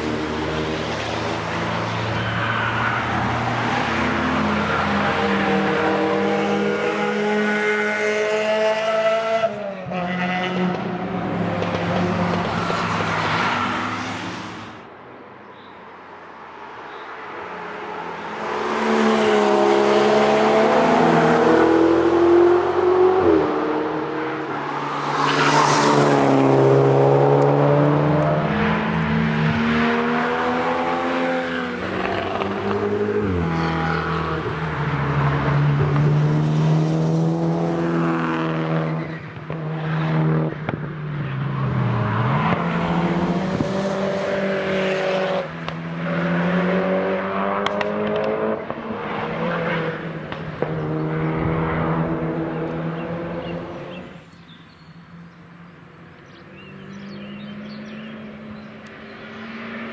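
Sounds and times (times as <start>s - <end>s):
race cars passing at speed: 0.0s - 59.9s.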